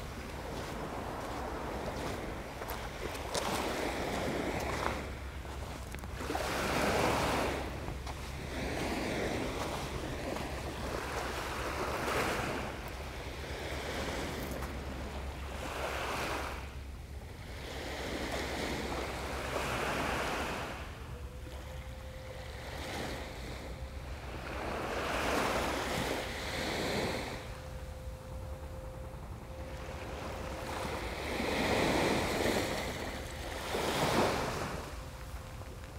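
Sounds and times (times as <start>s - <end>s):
faint steady hum: 0.0s - 35.9s
waves breaking on beach: 0.0s - 35.9s
wind rumble on microphone: 0.0s - 35.9s.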